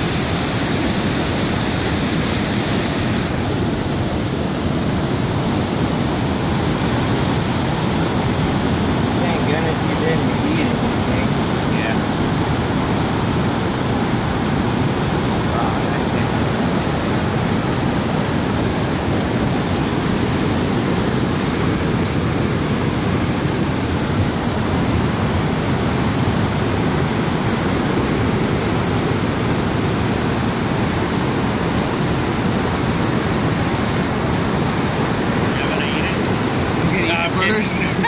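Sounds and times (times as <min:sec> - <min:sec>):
water rushing: 0:00.0 - 0:38.0.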